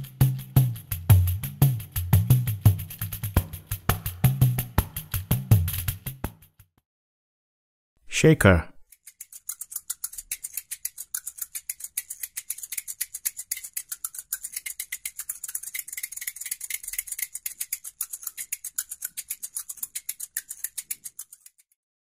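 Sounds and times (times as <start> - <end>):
hand shakers rattling: 0.0 - 6.5, 8.8 - 21.7.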